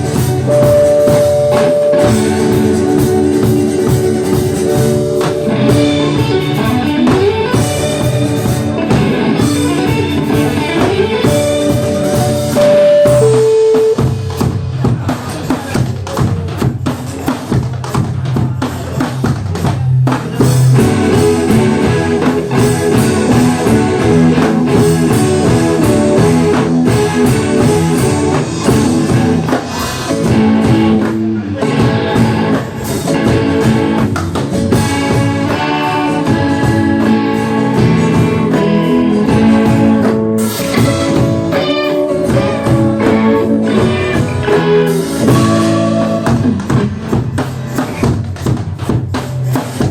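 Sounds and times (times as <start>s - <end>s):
drum kit beat: 0.0s - 49.9s
guitars: 0.0s - 49.9s.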